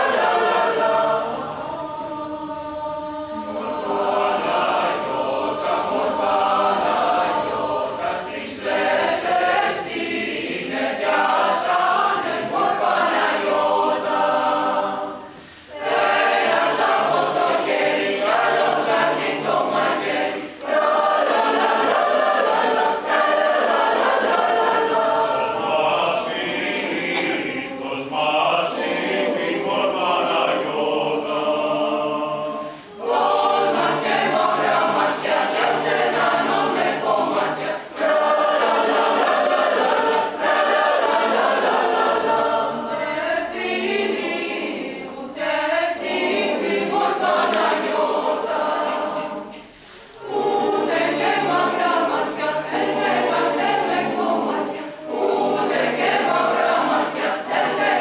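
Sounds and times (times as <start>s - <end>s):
mixed choir singing unaccompanied: 0.0s - 58.0s.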